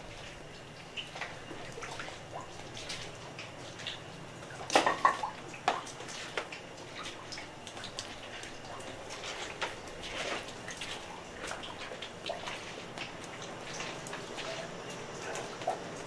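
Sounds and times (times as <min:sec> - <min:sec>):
water dripping: 0:00.0 - 0:16.0.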